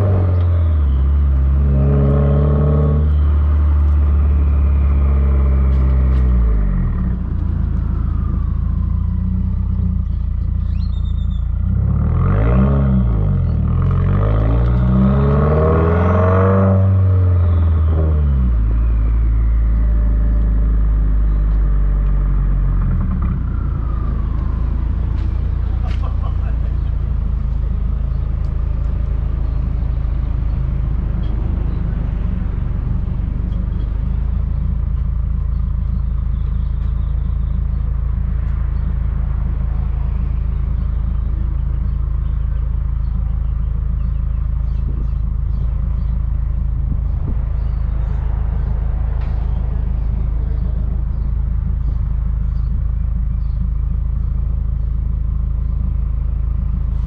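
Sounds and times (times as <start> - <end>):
car engine idling: 0.0 - 15.9, 16.9 - 57.0.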